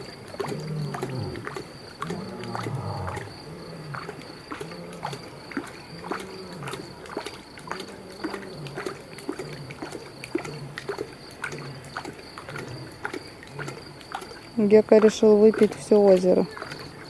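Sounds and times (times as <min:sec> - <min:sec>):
lion lapping water: 0:00.0 - 0:17.0.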